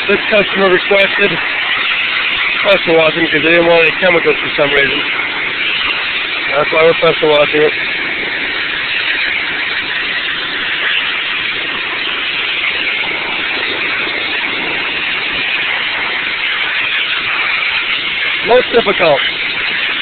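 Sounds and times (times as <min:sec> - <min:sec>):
pressure washer spray hissing: 0:00.0 - 0:20.0.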